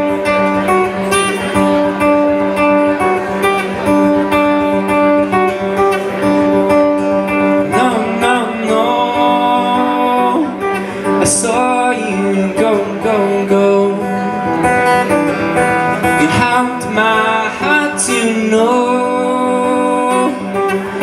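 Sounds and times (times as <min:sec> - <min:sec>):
acoustic guitar picking: 0:00.0 - 0:21.0
person singing: 0:00.0 - 0:21.0.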